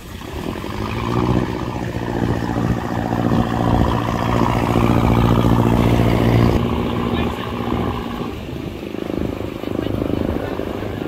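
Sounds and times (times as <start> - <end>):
motor boat engine humming: 0.0 - 11.0
water washing: 0.0 - 11.0.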